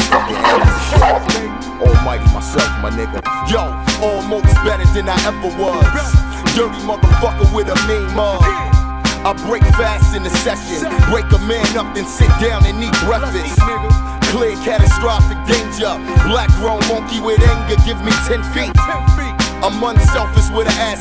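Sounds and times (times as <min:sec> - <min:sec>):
hip hop beat with bass: 0:00.0 - 0:21.0
man rapping: 0:00.0 - 0:21.0.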